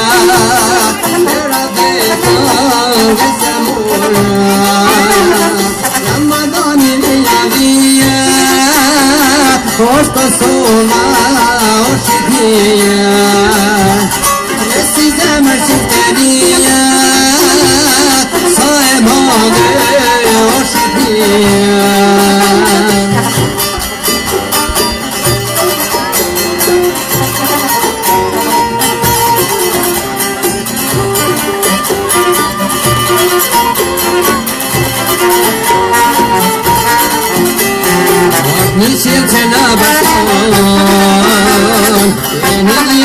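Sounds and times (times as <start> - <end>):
hand drums beating: 0.0 - 43.0
plucked lute melody: 0.0 - 43.0.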